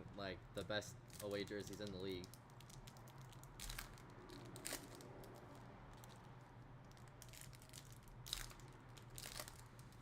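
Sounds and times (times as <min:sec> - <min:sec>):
low steady hum: 0:00.0 - 0:10.0
cards and foil wrappers rustling: 0:01.2 - 0:06.2, 0:07.0 - 0:10.0.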